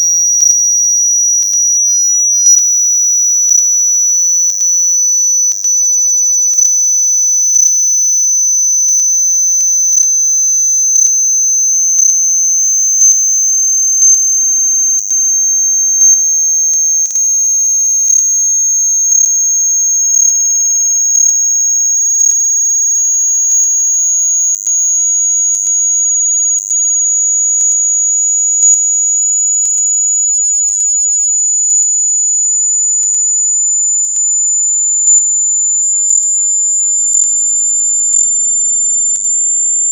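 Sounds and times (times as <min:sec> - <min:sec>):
high-pitched sine tone: 0:00.0 - 0:39.9.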